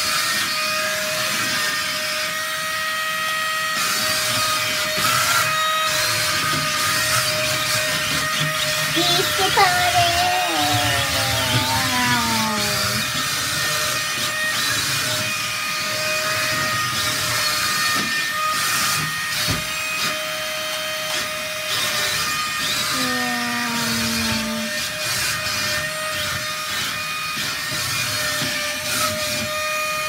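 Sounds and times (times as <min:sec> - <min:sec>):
toy car fan whining: 0:03.8 - 0:30.0.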